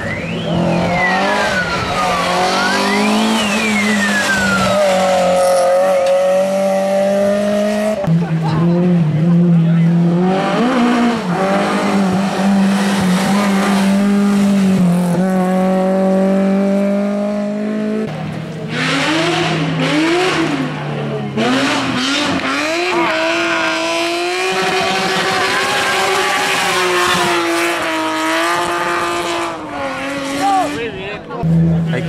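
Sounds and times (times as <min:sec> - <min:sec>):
racing car engines revving: 0:00.0 - 0:32.0.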